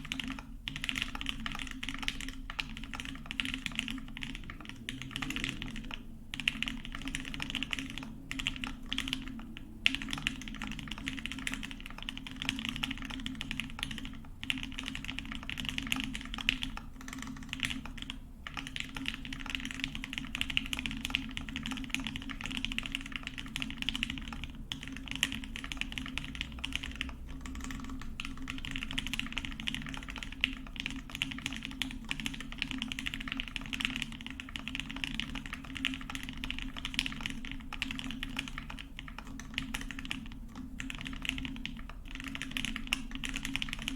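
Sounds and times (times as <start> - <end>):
typing on mechanical keyboard: 0.0 - 43.9.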